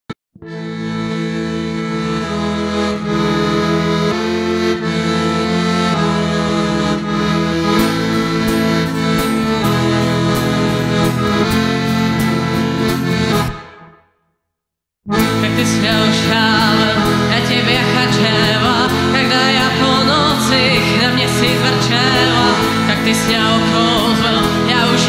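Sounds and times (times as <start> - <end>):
instrumental folk music chords: 0.4 - 14.2, 15.1 - 25.0.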